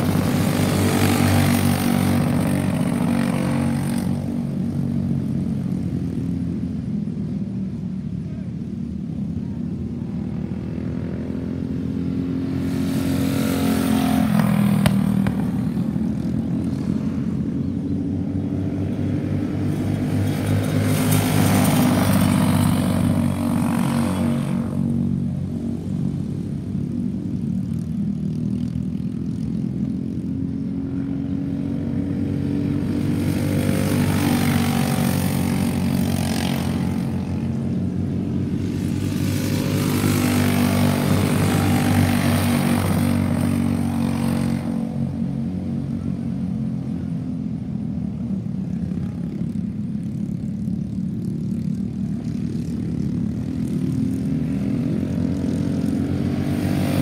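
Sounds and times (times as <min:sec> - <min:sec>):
go-kart engines buzzing: 0:00.0 - 0:57.0.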